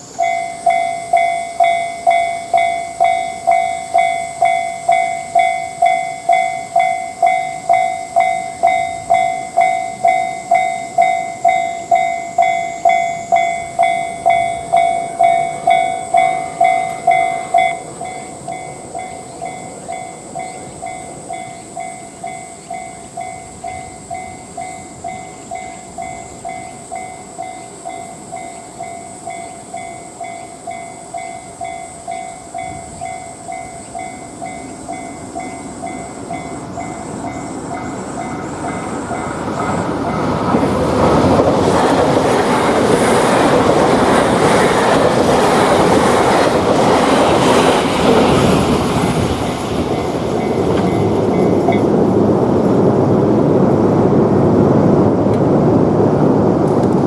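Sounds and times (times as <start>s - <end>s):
railroad crossing bell ringing: 0.0s - 52.3s.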